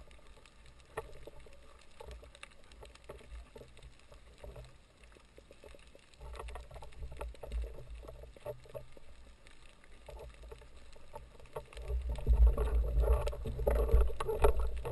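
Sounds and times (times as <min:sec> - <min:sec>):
underwater water rumble: 0:00.0 - 0:14.9.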